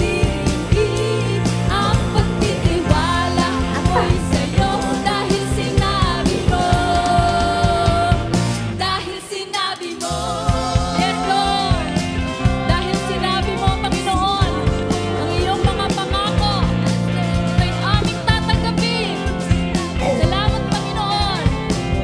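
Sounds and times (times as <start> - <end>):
pop song with singer: 0.0 - 22.0.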